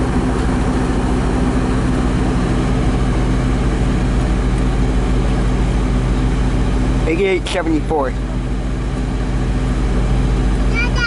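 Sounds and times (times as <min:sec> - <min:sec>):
large engine running: 0:00.0 - 0:11.0.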